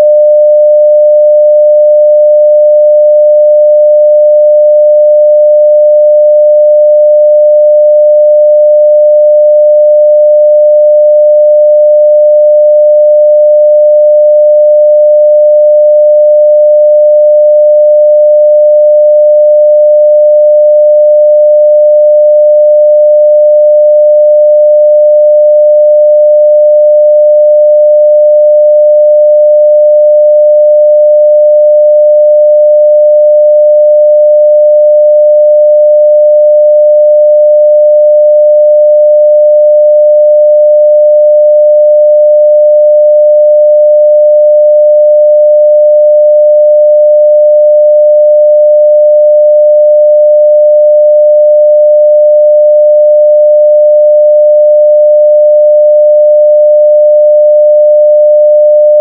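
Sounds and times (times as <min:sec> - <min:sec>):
sine wave test tone: 0:00.0 - 0:59.0.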